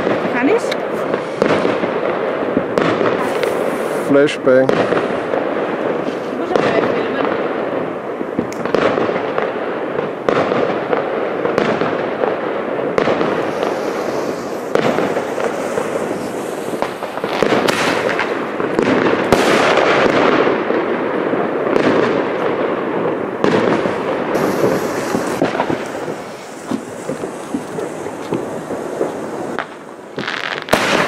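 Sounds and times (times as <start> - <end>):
firework hiss: 0.0 - 22.4, 23.1 - 31.0
fireworks bangs: 0.0 - 31.0
fireworks crackling: 0.0 - 31.0.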